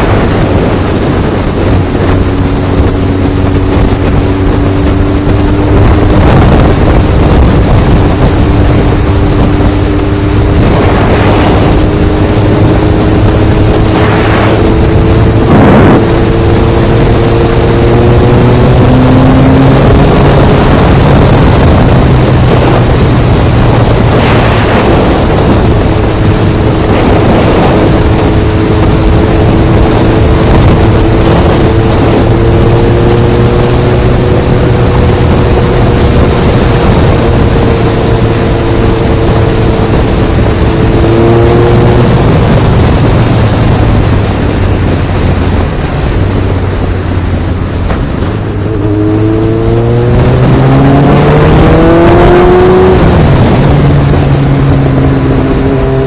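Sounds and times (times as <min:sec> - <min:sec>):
motorcycle engine cruising: 0:00.0 - 0:56.0
wind on microphone: 0:00.0 - 0:56.0.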